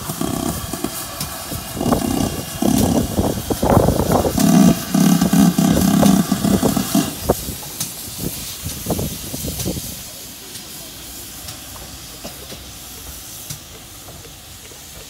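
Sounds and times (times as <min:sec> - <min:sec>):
steam locomotive exhaust beating: 0:00.0 - 0:15.0.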